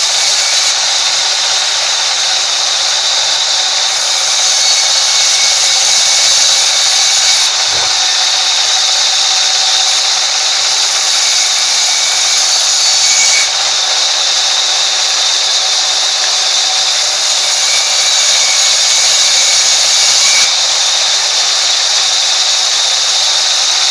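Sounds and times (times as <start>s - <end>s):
band saw ripping timber: 0.0s - 23.9s.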